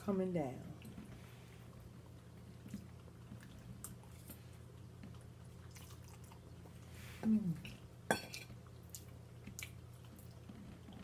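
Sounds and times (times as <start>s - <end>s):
wet chewing: 0.8s - 7.0s, 7.6s - 11.0s.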